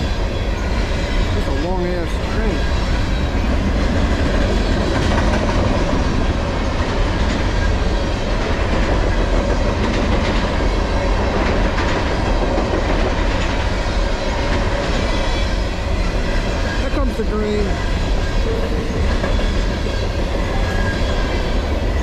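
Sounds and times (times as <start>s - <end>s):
steel wheels rumbling on rail: 0.0s - 22.0s
wheels clicking over rail joints: 3.2s - 22.0s.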